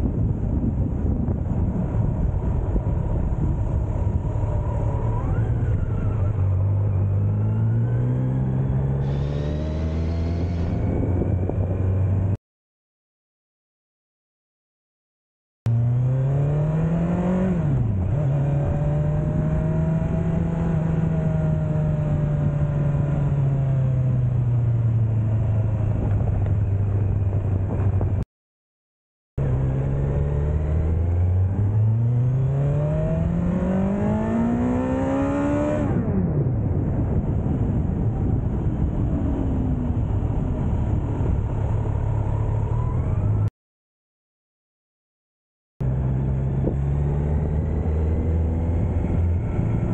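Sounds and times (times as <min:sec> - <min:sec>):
motorcycle engine while riding: 0:00.0 - 0:12.4, 0:15.7 - 0:28.2, 0:29.4 - 0:43.5, 0:45.8 - 0:49.9.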